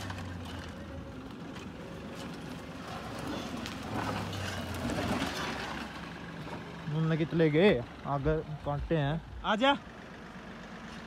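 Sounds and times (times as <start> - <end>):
diesel engine running low: 0.0 - 11.0.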